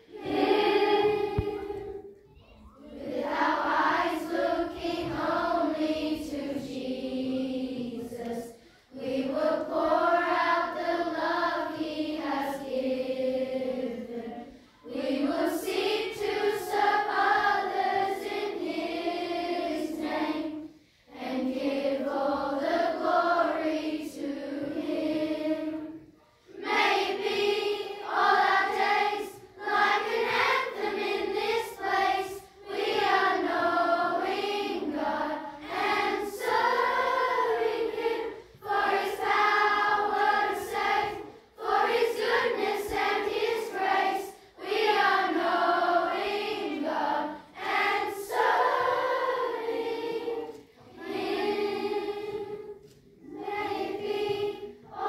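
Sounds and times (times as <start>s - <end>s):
girls choir singing: 0.0s - 2.2s, 2.8s - 55.0s.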